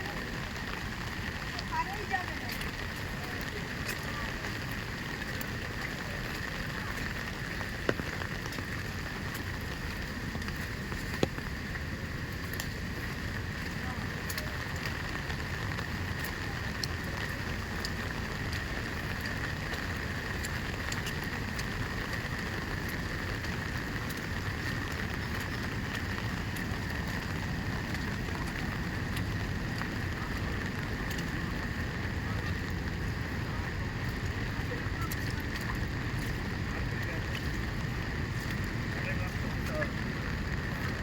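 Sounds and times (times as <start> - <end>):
waterfall roar: 0.0 - 41.0.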